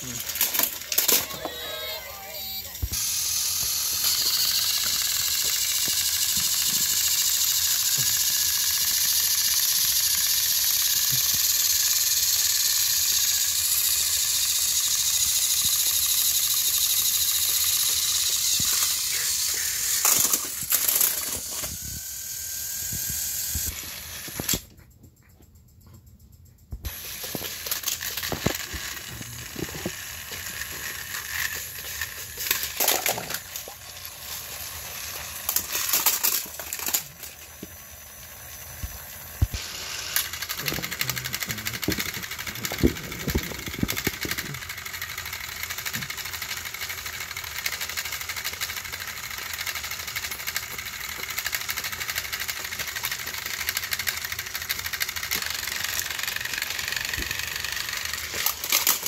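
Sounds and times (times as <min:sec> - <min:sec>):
plastic toys clicking and rattling: 0:00.0 - 0:24.7, 0:26.9 - 0:59.0
toy train motors whirring: 0:00.0 - 0:59.0.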